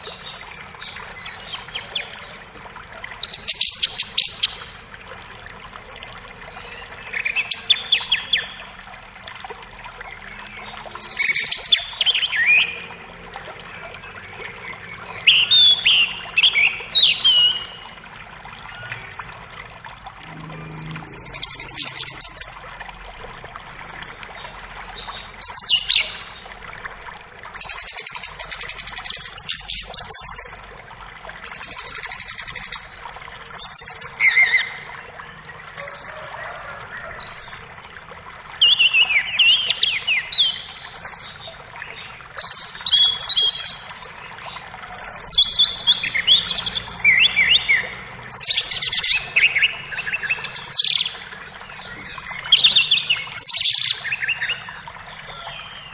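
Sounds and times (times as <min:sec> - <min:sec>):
songbirds singing: 0:00.0 - 0:26.8, 0:31.5 - 0:55.9
creek water trickling: 0:00.0 - 0:55.9.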